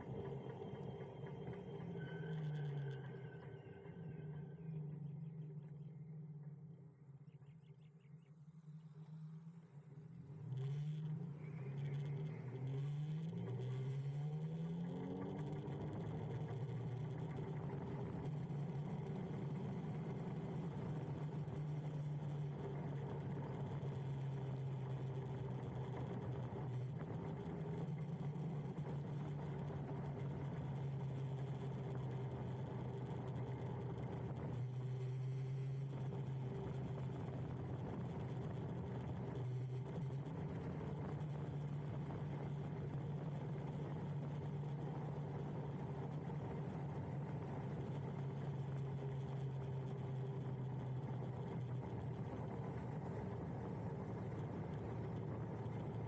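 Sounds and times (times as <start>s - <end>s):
wind and road noise: 10.5s - 56.0s.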